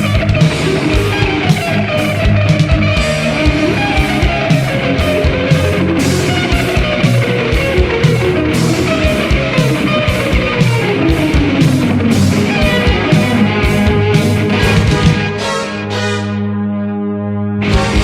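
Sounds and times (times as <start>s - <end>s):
electric guitar: 0.0s - 18.0s
drum beat: 0.2s - 15.6s.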